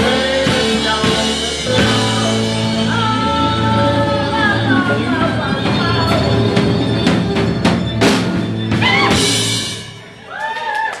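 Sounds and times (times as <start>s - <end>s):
held bass note: 0.0s - 10.3s
rock band playing: 0.0s - 10.6s.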